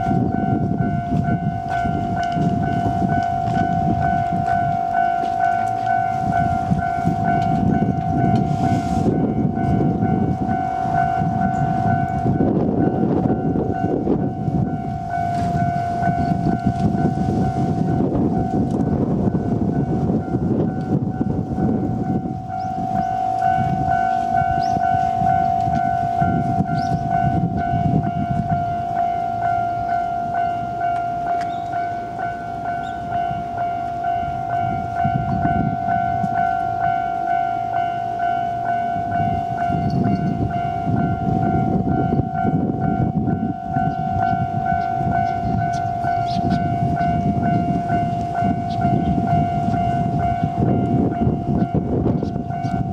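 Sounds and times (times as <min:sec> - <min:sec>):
freight train rumbling: 0:00.0 - 0:52.9
level crossing warning bell: 0:00.0 - 0:52.9.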